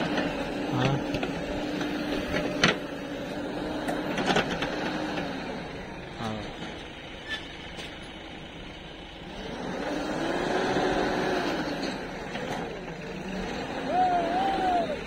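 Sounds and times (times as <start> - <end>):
diesel engine working: 0.0 - 15.0.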